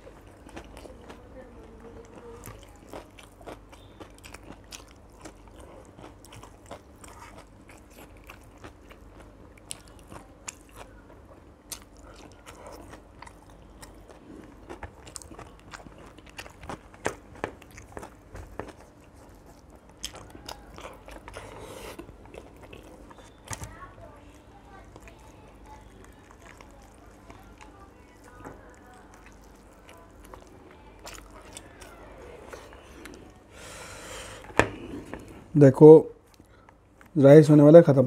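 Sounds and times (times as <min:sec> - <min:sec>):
person chewing: 0:00.0 - 0:35.6.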